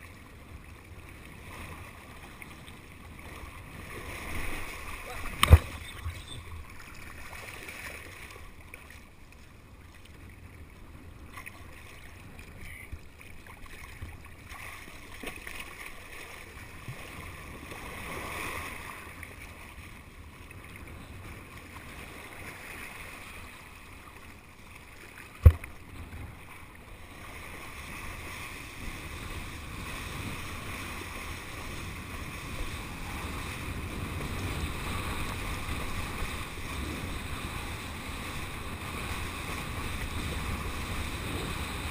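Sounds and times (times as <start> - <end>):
water rushing and splashing: 0.0 - 41.9.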